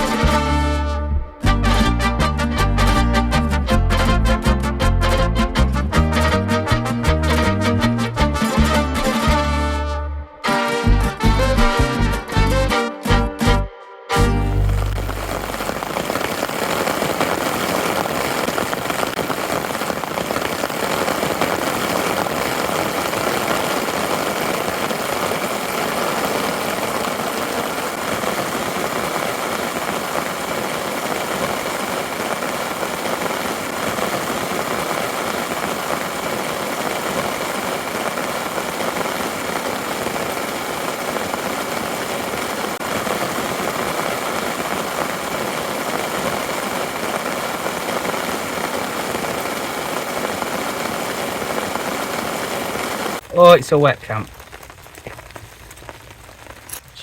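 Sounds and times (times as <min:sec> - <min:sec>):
steady rain hiss: 0:00.0 - 0:09.6, 0:10.4 - 0:57.0.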